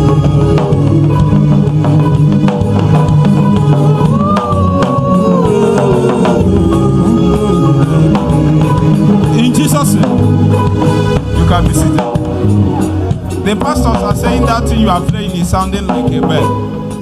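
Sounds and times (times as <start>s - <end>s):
live gospel band: 0.0s - 17.0s.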